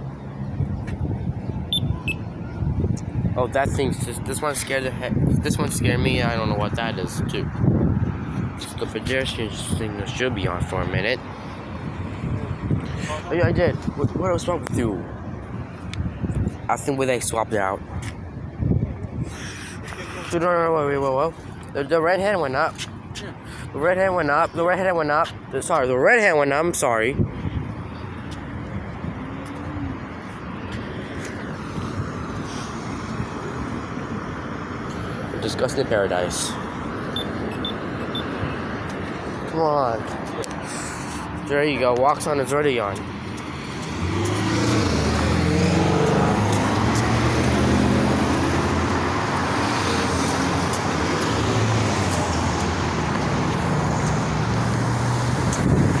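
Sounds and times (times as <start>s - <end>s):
passing cars: 0.0s - 56.0s
tyre and road noise: 0.0s - 56.0s.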